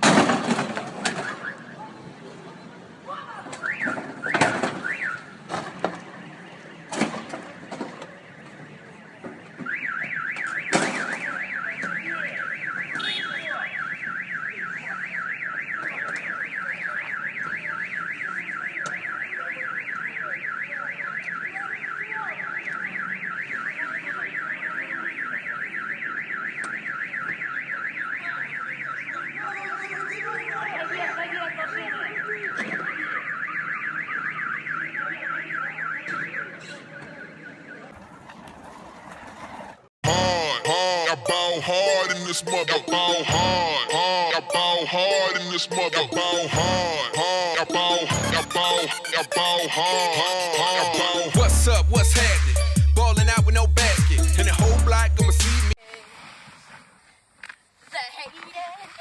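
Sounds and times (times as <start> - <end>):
car alarm warbling: 3.6 - 5.4, 9.6 - 55.8.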